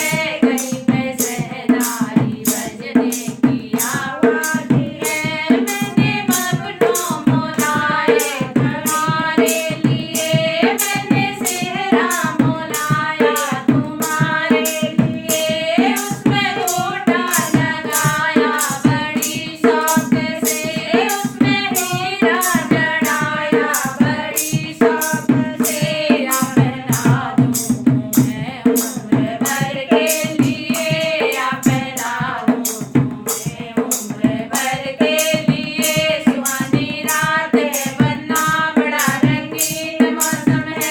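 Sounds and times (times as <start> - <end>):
hand drum beat: 0.0 - 40.9
woman singing folk song: 0.0 - 40.9.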